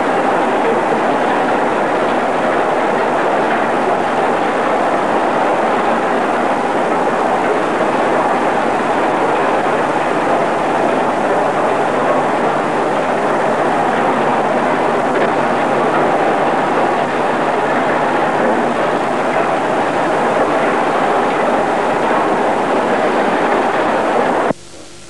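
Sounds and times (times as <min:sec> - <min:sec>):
heavy industrial machinery running: 0:00.0 - 0:25.0.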